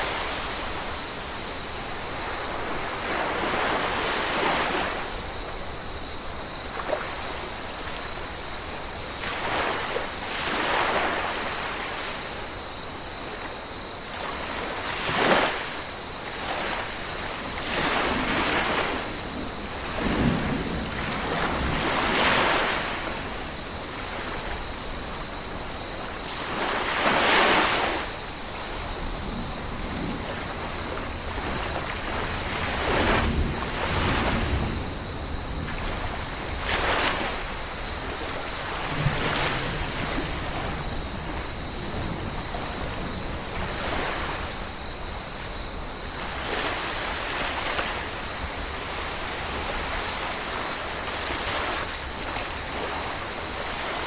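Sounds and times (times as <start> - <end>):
ocean waves breaking: 0.0 - 8.2, 9.2 - 12.4, 14.1 - 54.0.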